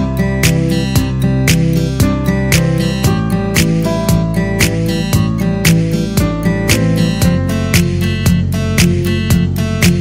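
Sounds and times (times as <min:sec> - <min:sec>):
steady beat: 0:00.0 - 0:10.0.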